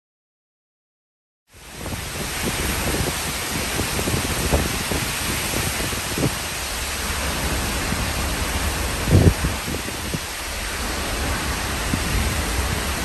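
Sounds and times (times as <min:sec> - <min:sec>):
wind and rain rushing hiss: 0:01.5 - 0:13.0
wind gusts buffeting microphone: 0:01.5 - 0:13.0.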